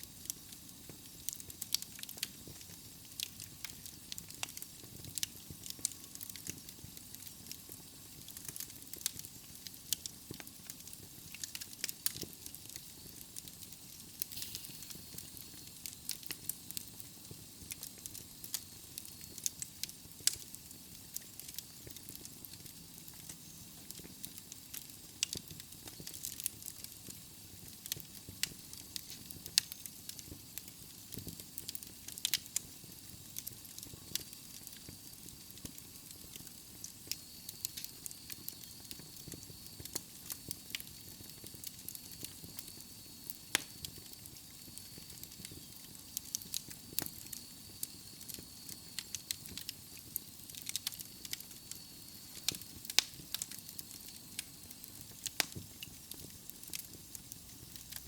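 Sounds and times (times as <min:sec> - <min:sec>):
fire hissing softly: 0:00.0 - 0:58.0
logs crackling and popping: 0:00.2 - 0:58.0.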